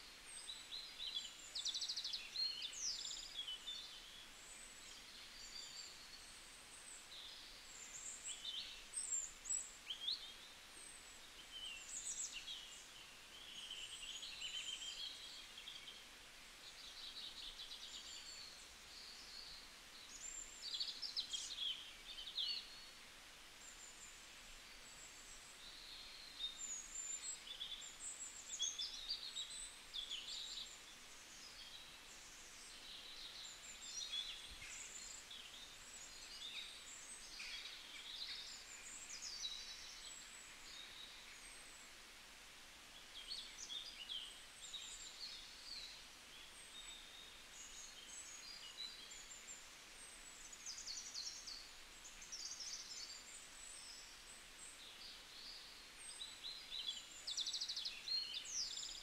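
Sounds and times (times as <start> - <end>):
small birds chirping: 0.0 - 59.0
soft hiss: 0.0 - 59.0.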